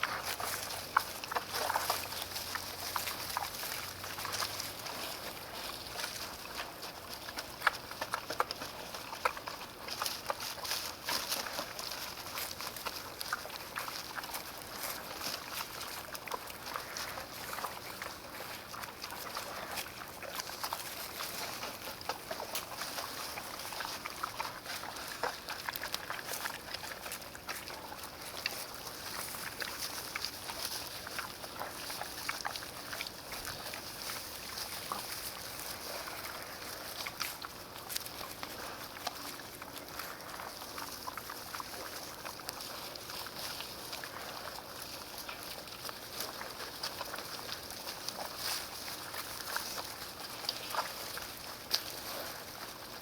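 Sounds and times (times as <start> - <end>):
pig squeaks: 0.0 - 53.0
pigs crunching and chewing: 0.0 - 53.0.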